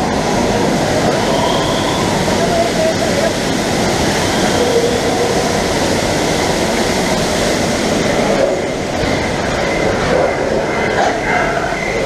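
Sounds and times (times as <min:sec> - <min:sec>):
ride track rattling: 0:00.0 - 0:12.0
rushing water: 0:00.0 - 0:12.0.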